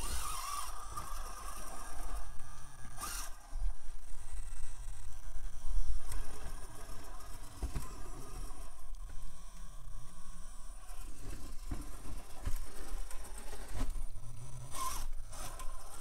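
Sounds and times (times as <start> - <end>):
rc car motor running: 0.0 - 16.0.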